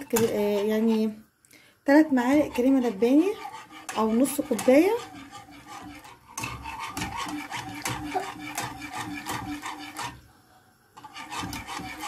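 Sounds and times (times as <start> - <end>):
whisk scraping metal saucepan: 0.0 - 1.2, 2.0 - 10.3, 11.0 - 12.0.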